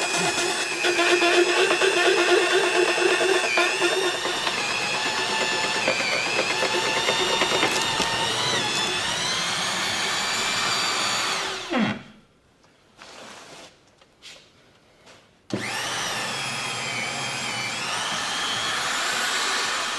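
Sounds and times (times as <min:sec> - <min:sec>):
drill drilling into wood: 0:00.0 - 0:12.0, 0:15.5 - 0:19.9.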